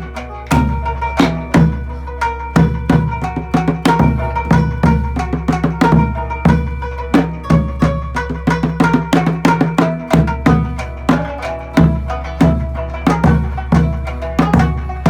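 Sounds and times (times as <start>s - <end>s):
drum strokes: 0.0s - 15.0s
plucked string notes: 0.0s - 15.0s.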